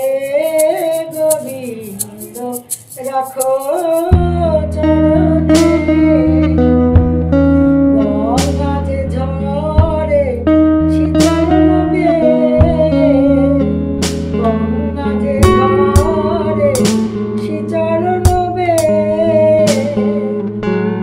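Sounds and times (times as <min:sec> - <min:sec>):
woman singing devotional song: 0:00.0 - 0:06.8, 0:07.8 - 0:13.8, 0:14.4 - 0:21.0
instrumental accompaniment: 0:00.0 - 0:21.0.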